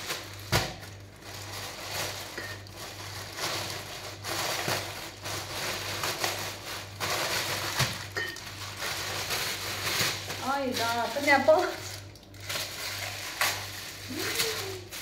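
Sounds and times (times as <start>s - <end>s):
low steady hum: 0.0s - 15.0s
plastic packaging crinkling: 0.0s - 15.0s.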